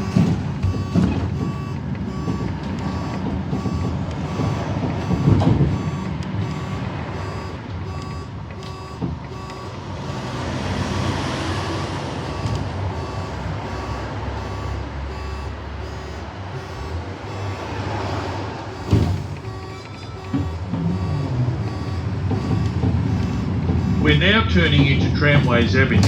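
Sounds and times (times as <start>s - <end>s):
electronic beeping: 0.0s - 26.0s
tram wheel and running rumble: 0.0s - 26.0s.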